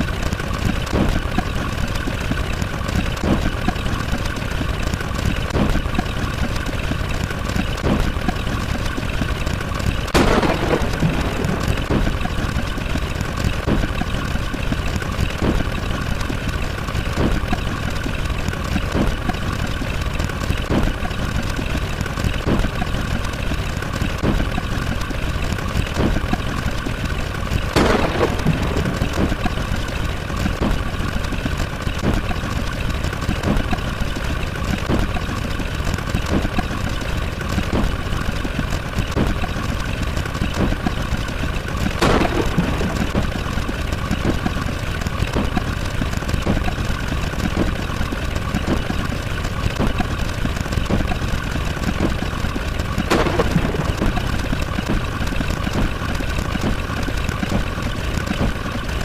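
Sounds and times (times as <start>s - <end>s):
engine-like drone: 0.0s - 59.0s
faint rapid ticks: 0.0s - 59.0s.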